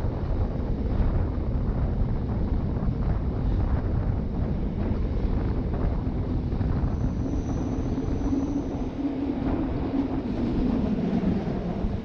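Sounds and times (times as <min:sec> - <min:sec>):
railcar wheels rumbling: 0:00.0 - 0:12.0.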